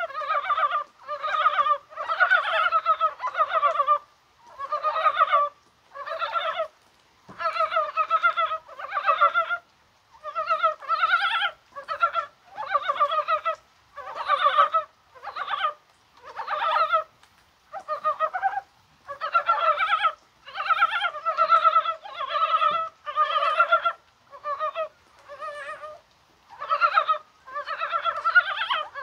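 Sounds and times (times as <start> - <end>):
frogs croaking in chorus: 0.0 - 6.7, 7.3 - 17.1, 17.7 - 29.0.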